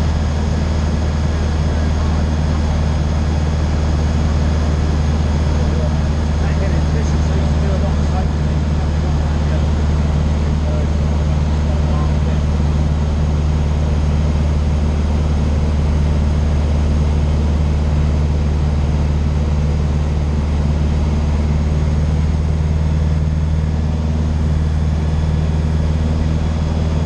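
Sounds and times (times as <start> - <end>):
propeller aircraft engine droning: 0.0 - 27.0.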